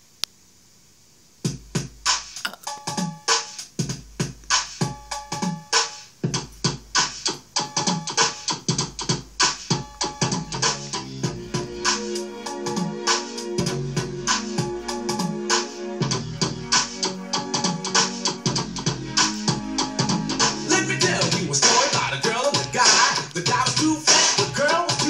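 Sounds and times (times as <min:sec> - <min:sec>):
dance music with drum beat: 0:01.5 - 0:25.0.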